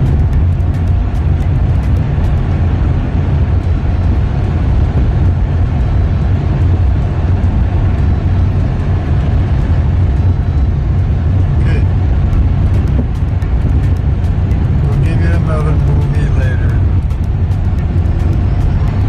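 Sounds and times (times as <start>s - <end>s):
car tyre and road noise: 0.0s - 19.0s.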